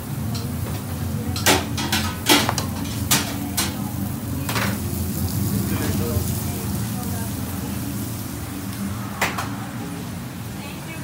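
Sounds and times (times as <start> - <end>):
extraction fan hum: 0.0 - 11.0.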